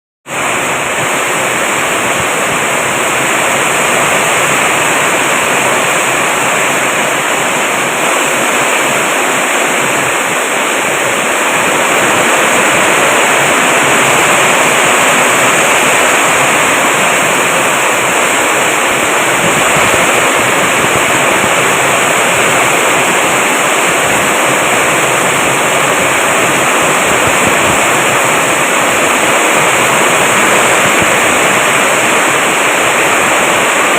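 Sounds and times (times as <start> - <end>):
heavy rain downpour: 0.2 - 33.9.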